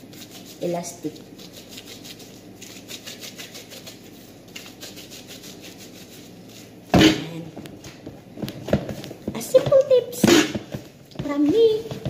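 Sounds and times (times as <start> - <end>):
dough squishing in gloved hands: 0.0 - 12.0.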